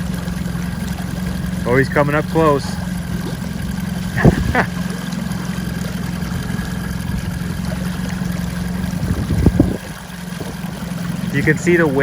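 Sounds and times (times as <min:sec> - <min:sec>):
boat engine running low speed: 0:00.0 - 0:12.0.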